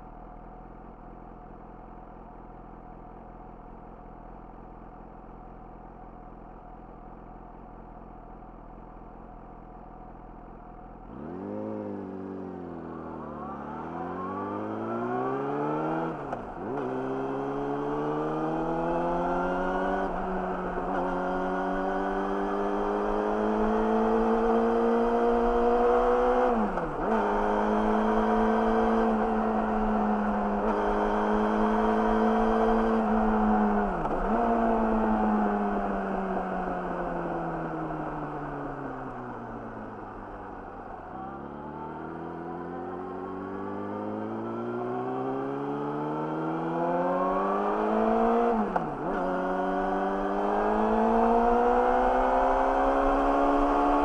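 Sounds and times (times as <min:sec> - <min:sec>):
motorcycle engine idling and accelerating: 0:00.0 - 0:54.0.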